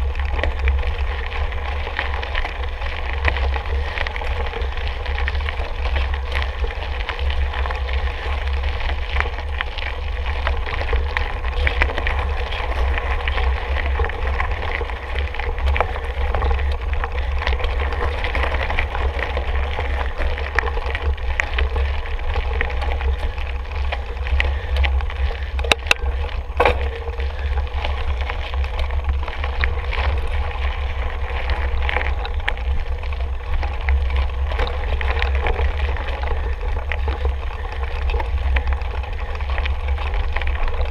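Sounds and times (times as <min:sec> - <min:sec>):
bike rattles and knocks: 0:00.0 - 0:40.9
bike tyre noise: 0:00.0 - 0:40.9
wind rumbling on microphone: 0:00.0 - 0:40.9.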